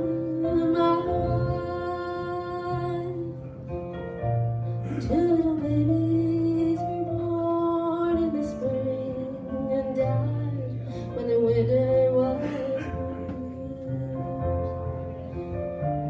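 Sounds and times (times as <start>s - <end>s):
woman singing a country ballad: 0.0s - 3.4s, 4.9s - 14.7s
keyboard accompaniment: 0.0s - 16.0s.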